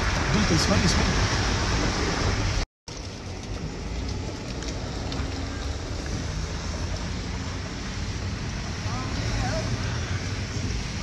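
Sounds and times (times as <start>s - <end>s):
vehicle on wet slushy road: 0.0s - 11.0s.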